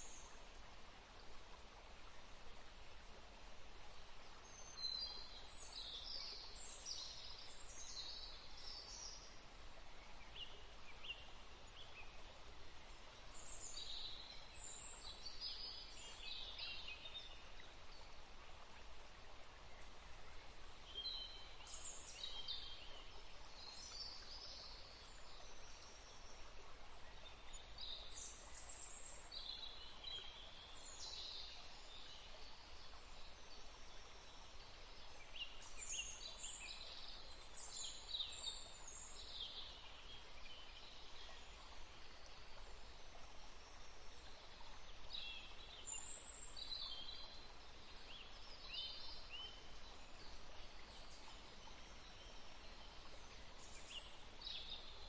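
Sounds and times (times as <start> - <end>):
faint steady hiss: 0.0 - 55.0
songbirds chirping: 0.0 - 55.0.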